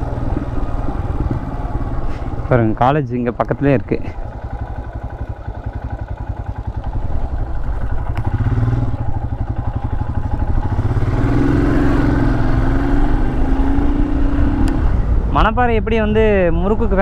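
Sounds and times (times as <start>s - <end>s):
motorcycle engine accelerating: 0.0s - 15.5s.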